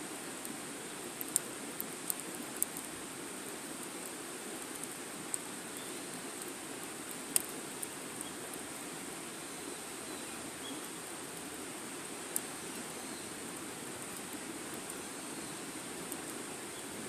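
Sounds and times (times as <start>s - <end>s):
wood fire hissing: 0.0s - 17.0s
fire crackling pops: 0.4s - 9.3s, 10.8s - 15.0s, 15.8s - 17.0s.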